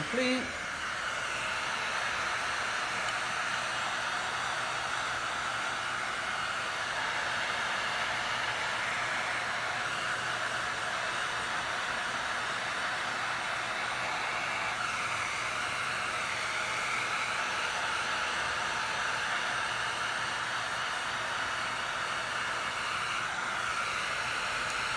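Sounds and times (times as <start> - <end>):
heat gun blowing: 0.0 - 24.9.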